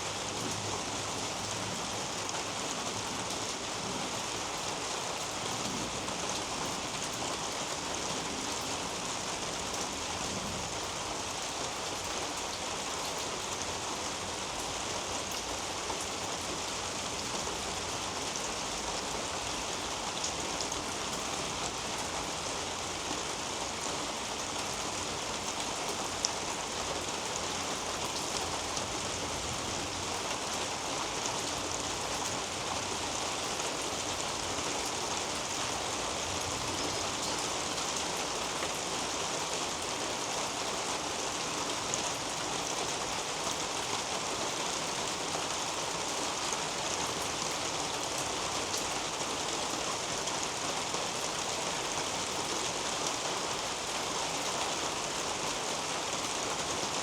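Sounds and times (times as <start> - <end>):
rain on roof and leaves: 0.0 - 57.0.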